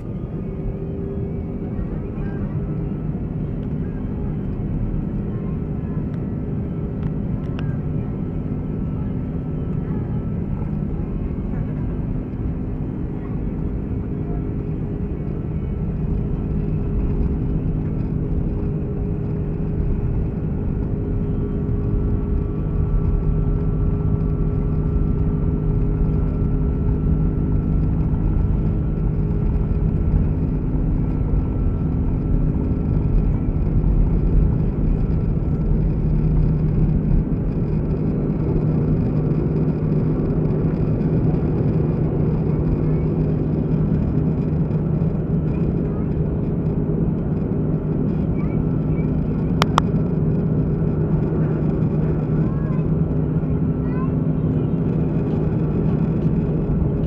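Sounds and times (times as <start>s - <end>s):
jet engines droning: 0.0s - 57.0s
steady hum tones: 0.0s - 57.0s.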